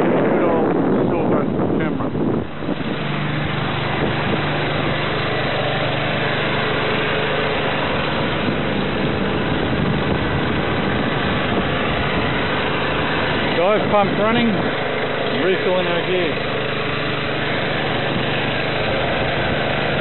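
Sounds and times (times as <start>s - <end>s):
wind on microphone: 0.0s - 14.8s, 17.6s - 20.0s
steady low hum: 0.0s - 20.0s
water rushing past a hull: 0.0s - 20.0s.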